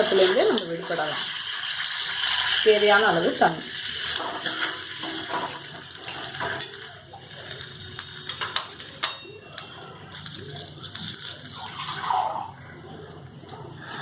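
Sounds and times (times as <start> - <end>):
water pouring into a pot: 0.0 - 12.6.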